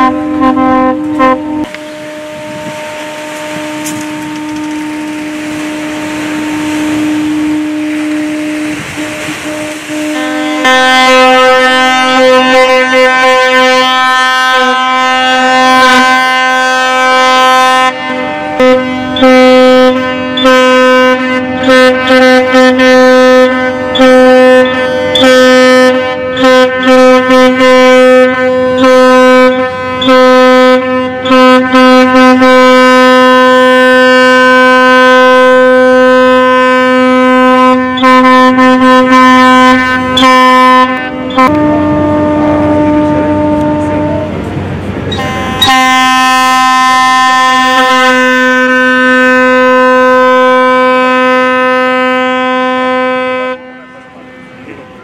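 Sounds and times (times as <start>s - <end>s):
higher-pitched second horn: 0.0s - 44.5s, 45.1s - 55.0s
tugboat horn blast: 0.0s - 55.0s.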